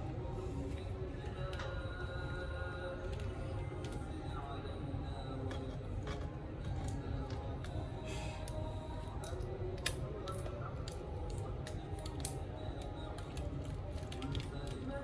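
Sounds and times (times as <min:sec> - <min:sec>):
faint background music: 0:00.0 - 0:15.0.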